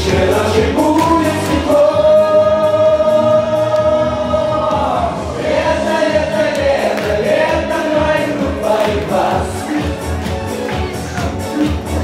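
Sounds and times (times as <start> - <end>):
person singing: 0.0 - 11.6
song accompaniment: 0.0 - 12.0.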